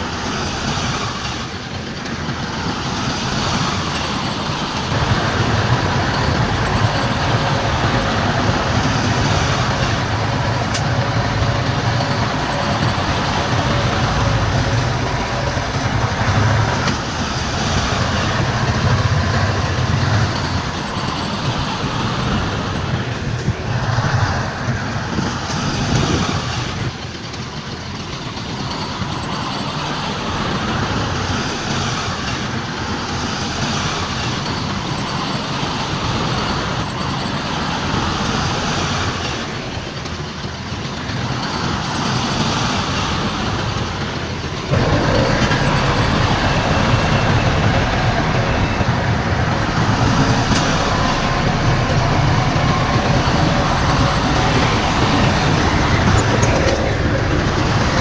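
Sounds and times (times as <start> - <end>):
heavy diesel machinery rumbling: 0.0 - 58.0.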